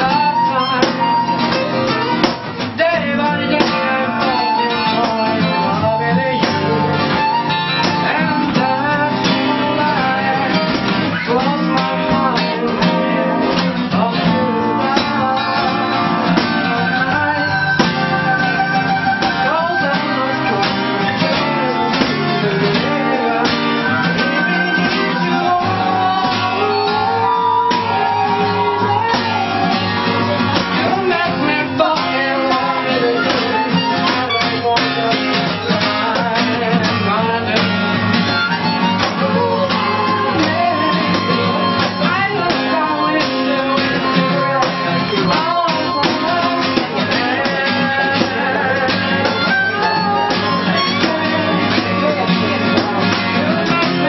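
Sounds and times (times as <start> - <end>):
acoustic guitars strumming: 0.0 - 54.0
person singing: 0.0 - 54.0.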